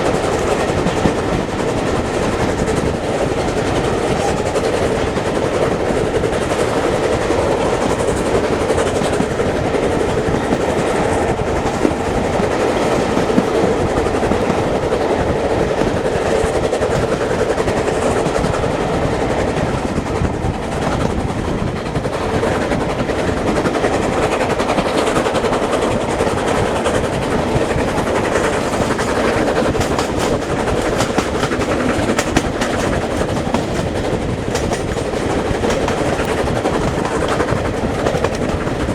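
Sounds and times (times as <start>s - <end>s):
rapid clicks of wheels: 0.0s - 38.9s
train wheels rumbling on rails: 0.0s - 38.9s.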